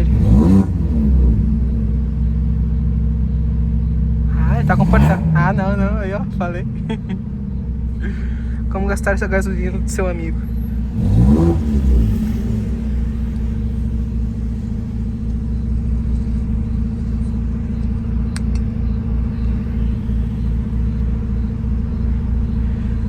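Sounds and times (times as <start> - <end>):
car engine and exhaust running: 0.0 - 23.0.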